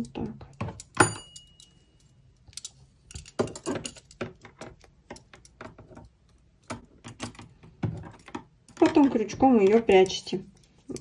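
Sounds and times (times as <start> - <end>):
metal knitting needles clicking: 0.0 - 6.8, 8.7 - 11.0.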